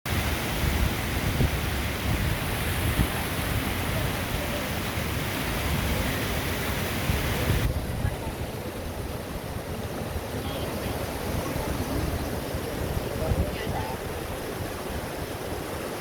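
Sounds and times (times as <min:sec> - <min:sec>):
floodwater rushing: 0:00.1 - 0:16.0
wind rumble on microphone: 0:00.1 - 0:16.0.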